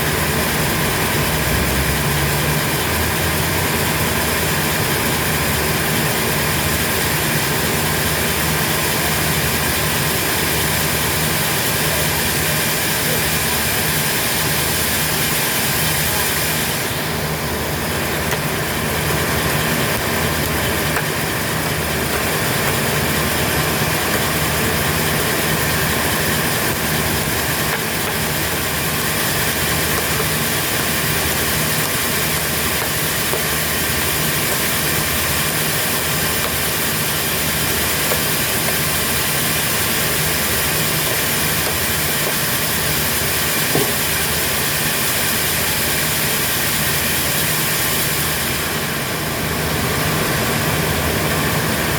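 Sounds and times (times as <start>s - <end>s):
sawmill engine drone: 0.0s - 51.9s.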